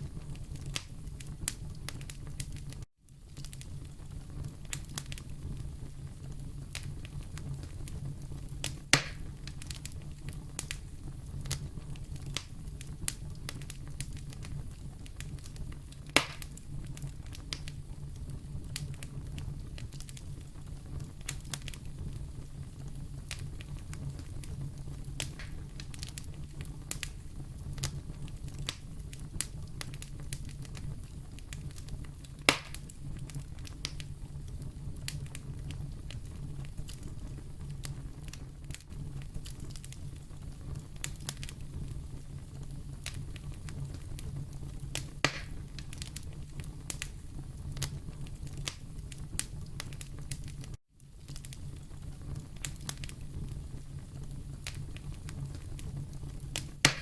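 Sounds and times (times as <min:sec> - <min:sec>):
fire crackling: 0:00.0 - 0:57.0
fire flames rumbling: 0:00.0 - 0:57.0
loud fire pops: 0:00.0 - 0:57.0.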